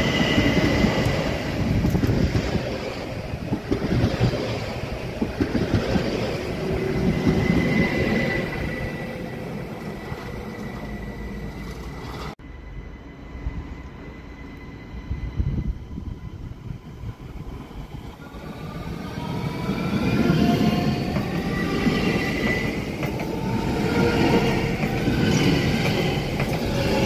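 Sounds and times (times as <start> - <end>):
train wheels rumbling over rails: 0.0 - 12.4, 15.8 - 27.0
distant train approaching: 0.0 - 27.0.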